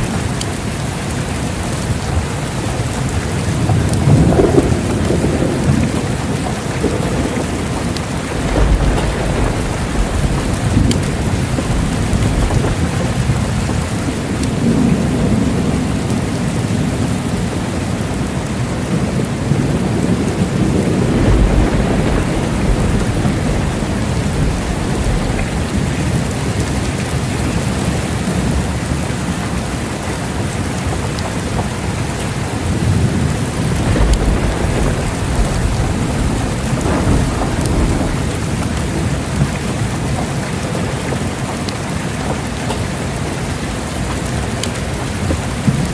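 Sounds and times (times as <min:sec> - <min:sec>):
rolling thunder: 0:00.0 - 0:31.1, 0:31.9 - 0:45.9
heavy rain falling: 0:00.0 - 0:45.9.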